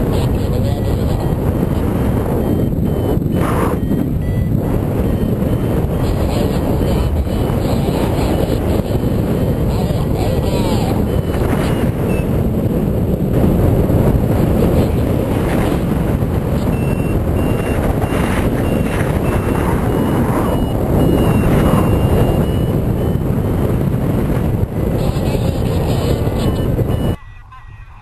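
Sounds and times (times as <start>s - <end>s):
variometer short high beeps: 0.0s - 12.6s, 15.5s - 28.0s
wind rushing over microphone: 0.0s - 27.2s.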